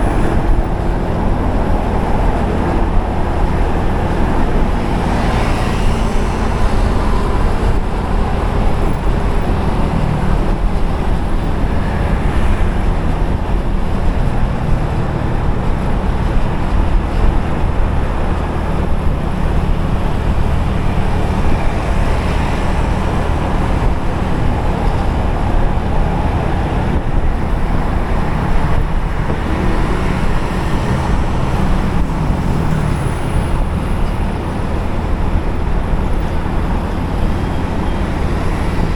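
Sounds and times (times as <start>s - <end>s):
passing traffic: 0.0s - 38.9s.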